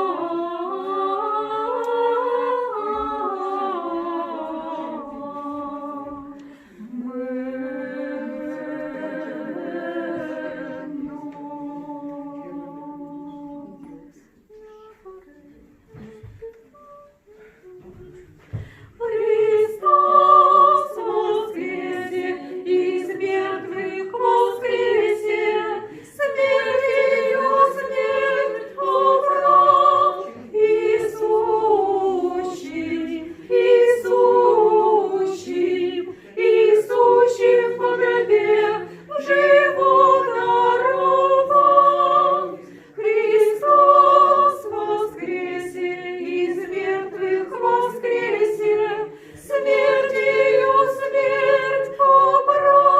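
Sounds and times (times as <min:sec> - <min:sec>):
choir singing a cappella: 0:00.0 - 0:52.9.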